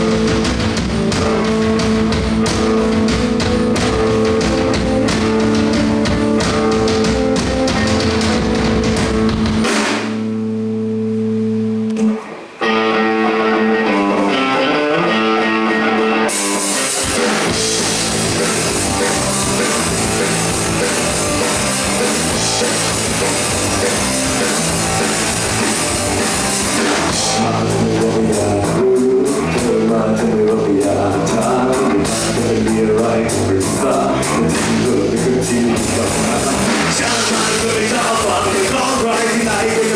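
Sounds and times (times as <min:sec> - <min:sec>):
drums and cymbals: 0:00.0 - 0:10.3, 0:16.3 - 0:39.9
bass guitar: 0:00.0 - 0:39.9
electric guitar chords: 0:00.0 - 0:39.9.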